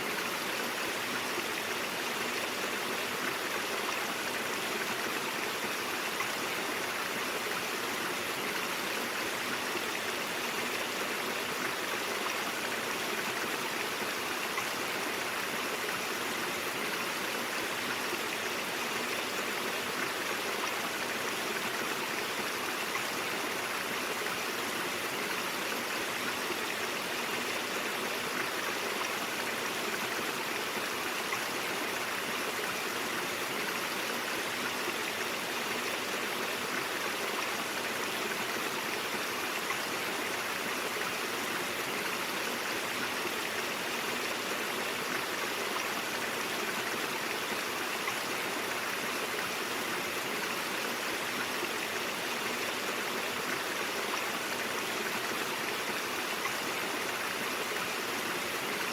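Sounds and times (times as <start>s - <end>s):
stream water over rocks: 0.0s - 58.9s.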